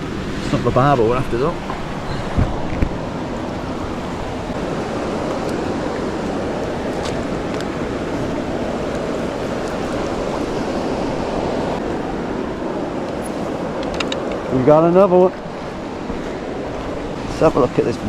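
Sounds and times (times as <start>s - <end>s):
flowing river water: 0.0s - 18.0s.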